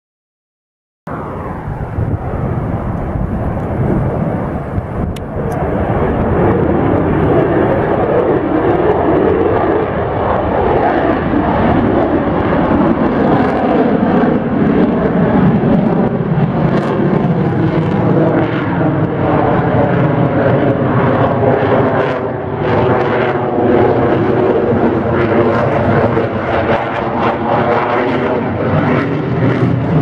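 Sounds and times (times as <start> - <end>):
aircraft engine in flight: 1.1 - 30.0.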